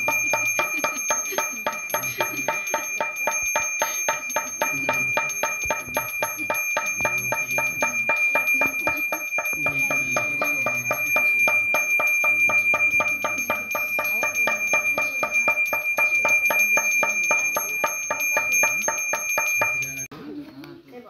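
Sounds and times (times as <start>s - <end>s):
small hand bell ringing rapidly: 0.0s - 20.1s.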